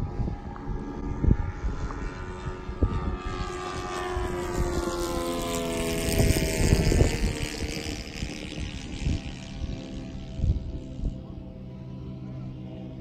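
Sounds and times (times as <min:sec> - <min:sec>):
wind buffeting thumps: 0:00.0 - 0:11.2
model plane propeller droning: 0:00.0 - 0:13.0.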